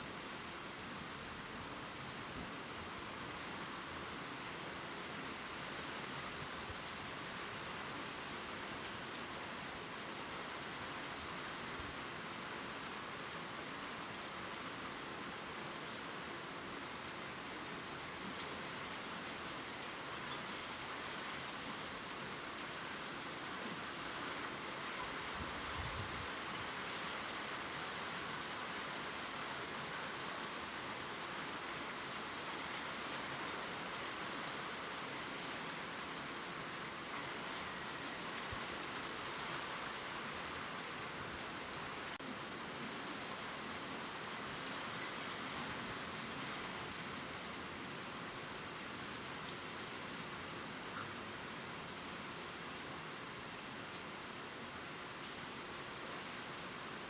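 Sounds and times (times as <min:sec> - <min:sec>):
gentle rain on leaves: 0:00.0 - 0:57.0.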